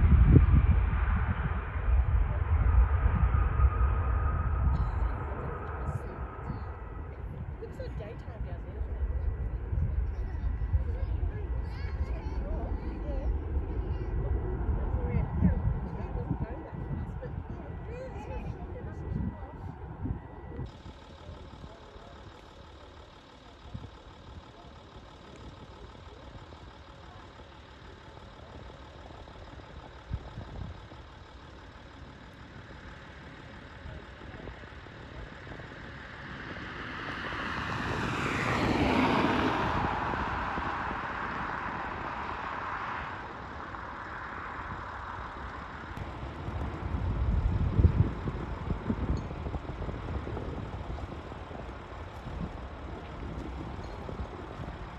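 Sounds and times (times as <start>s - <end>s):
jet engines roaring: 0.0s - 54.9s
low rumble: 0.0s - 54.9s.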